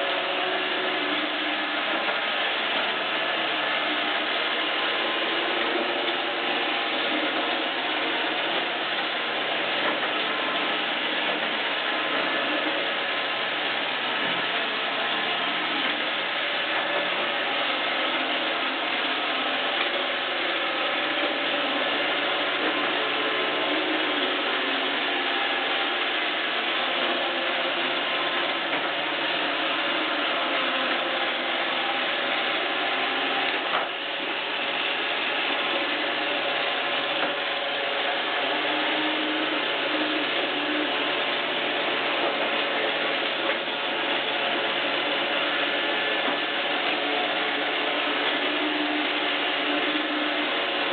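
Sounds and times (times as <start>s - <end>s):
robot vacuum running: 0.0s - 50.9s.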